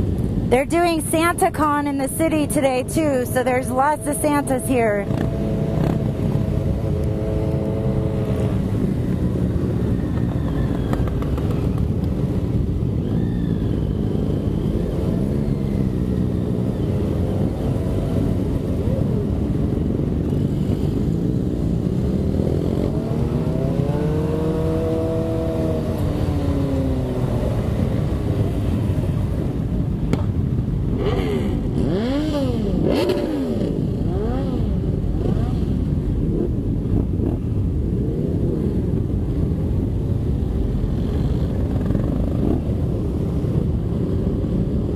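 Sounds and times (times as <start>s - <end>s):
motorcycle engines revving: 0.0s - 44.9s.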